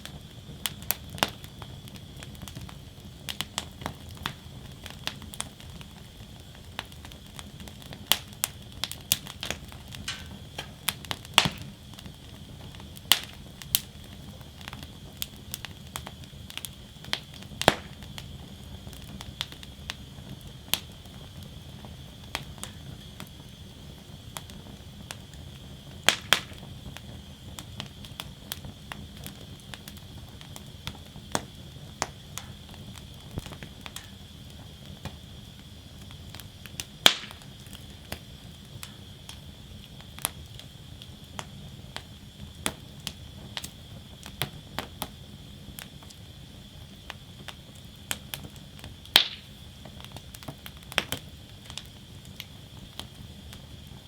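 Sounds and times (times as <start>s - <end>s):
burning wood crackling and popping: 0.0s - 54.0s
low rustle of flames: 0.0s - 54.0s.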